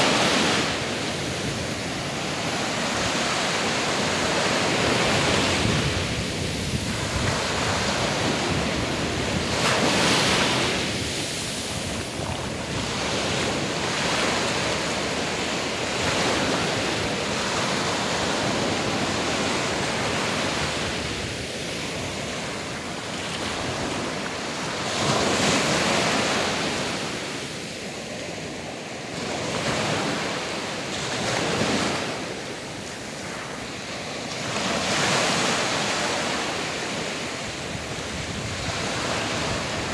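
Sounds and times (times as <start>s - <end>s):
sea waves breaking on sand: 0.0s - 39.9s.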